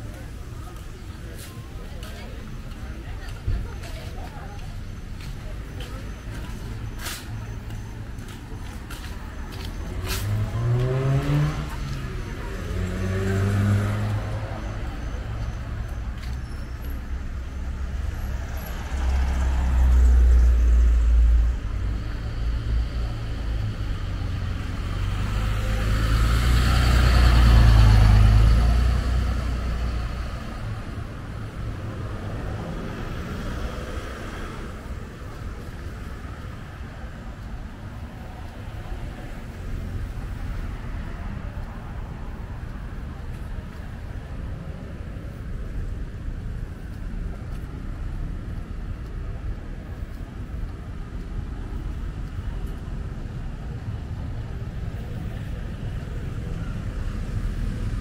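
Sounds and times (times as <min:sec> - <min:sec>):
steady traffic hum: 0:00.0 - 0:58.0
vehicles passing close: 0:00.0 - 0:58.0.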